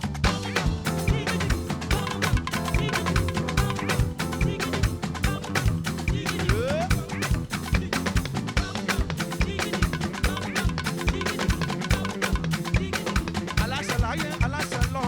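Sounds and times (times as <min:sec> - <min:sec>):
bass line: 0:00.0 - 0:15.0
drum kit: 0:00.0 - 0:15.0
hand percussion: 0:00.0 - 0:15.0.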